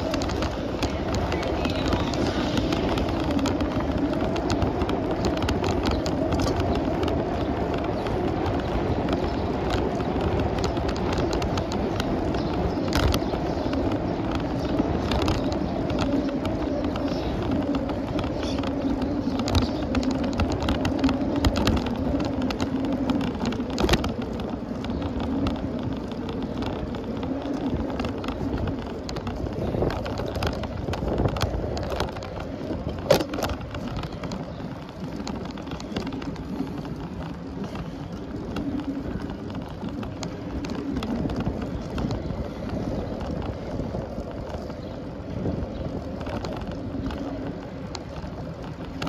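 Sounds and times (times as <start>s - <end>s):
bicycle clicks and rattles: 0.0s - 49.0s
bicycle tyre road hum: 0.0s - 49.0s.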